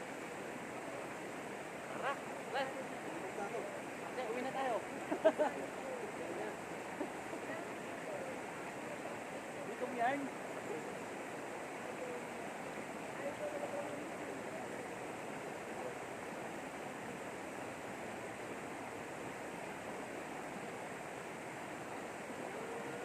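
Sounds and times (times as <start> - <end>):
river water rushing: 0.0 - 23.0
faint voices: 0.2 - 21.0, 21.9 - 23.0.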